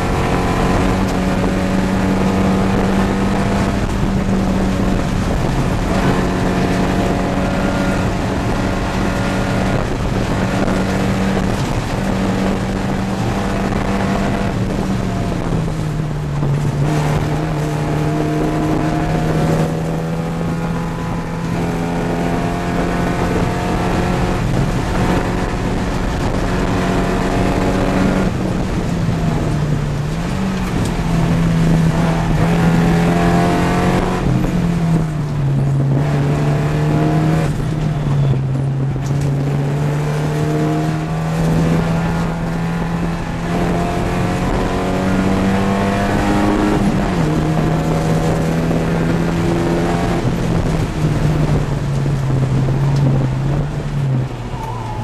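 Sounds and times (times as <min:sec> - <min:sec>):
race car engine revving: 0:00.0 - 0:55.0
wind and road noise: 0:00.0 - 0:55.0.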